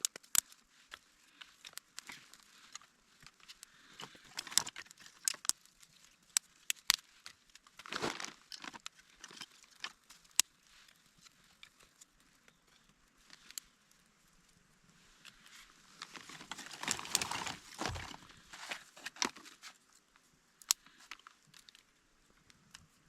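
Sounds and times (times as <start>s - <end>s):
crinkling and rustling: 0.0s - 13.8s, 15.1s - 23.0s.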